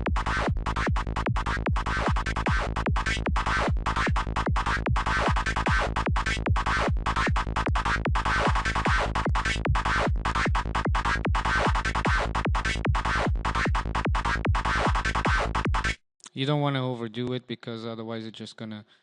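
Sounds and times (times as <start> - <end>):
kick drum beat: 0.0 - 15.9.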